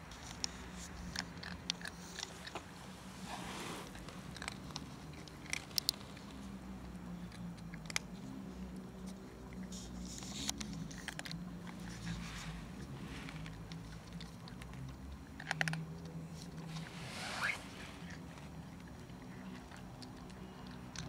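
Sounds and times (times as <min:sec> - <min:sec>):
cat crunching dry kibble: 0:00.0 - 0:03.2, 0:03.8 - 0:17.0, 0:17.7 - 0:21.0.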